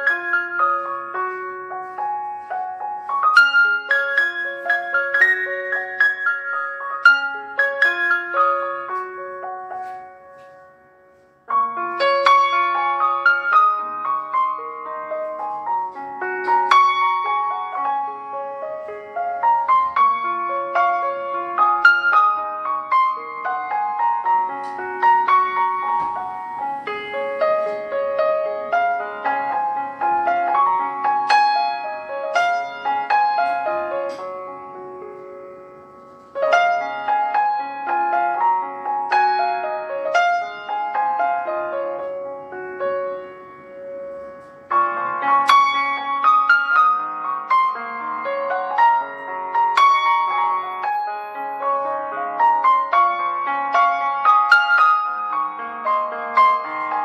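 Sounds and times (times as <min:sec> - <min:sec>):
gentle piano melody: 0:00.0 - 0:57.0.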